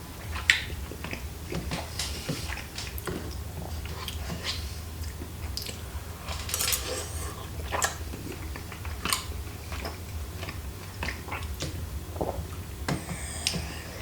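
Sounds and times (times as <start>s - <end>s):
low steady hum: 0.0s - 14.0s
chewing rice cakes: 0.2s - 13.9s.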